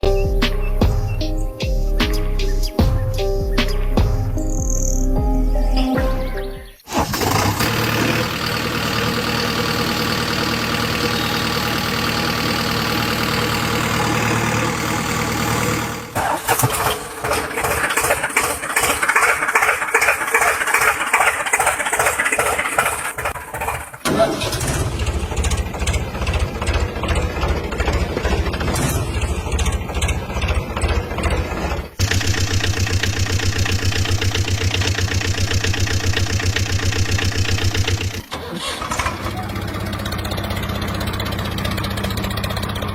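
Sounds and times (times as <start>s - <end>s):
vehicle engines running: 7.0s - 42.9s.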